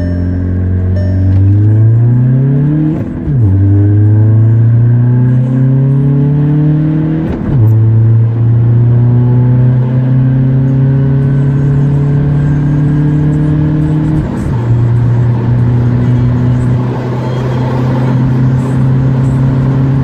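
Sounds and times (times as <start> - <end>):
diesel engine accelerating hard: 0.0 - 20.0.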